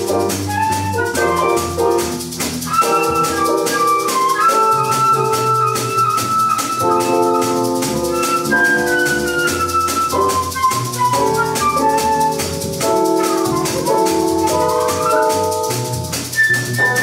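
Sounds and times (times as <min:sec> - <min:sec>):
drums with cymbal rhythm: 0:00.0 - 0:17.0
flute melody: 0:00.0 - 0:17.0
walking upright bass: 0:00.0 - 0:17.0.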